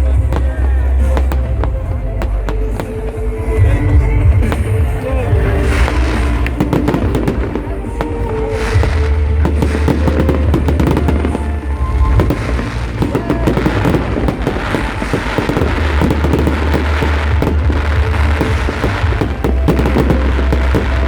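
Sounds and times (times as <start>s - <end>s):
fireworks crackling and popping: 0.0s - 21.0s
music with steady bass: 0.0s - 21.0s.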